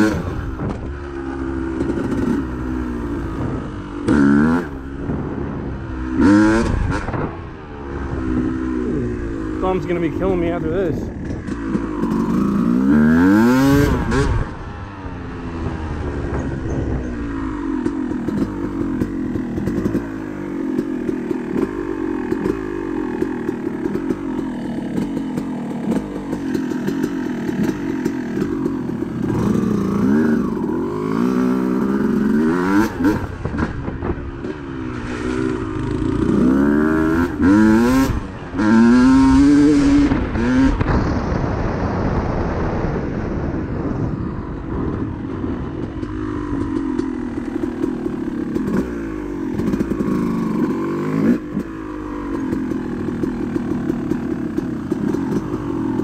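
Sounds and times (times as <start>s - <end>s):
dirt bike engine revving: 0.0s - 41.3s, 44.7s - 56.0s.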